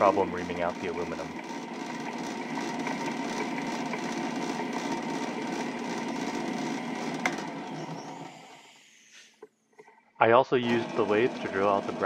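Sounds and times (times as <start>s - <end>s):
metal lathe cutting: 0.0s - 9.0s, 10.6s - 12.0s.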